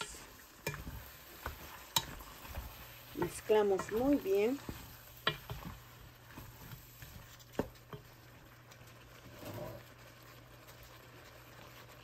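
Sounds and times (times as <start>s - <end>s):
faint sizzle of frying: 0.0s - 12.0s
wooden spoon scraping a pan: 0.0s - 12.0s.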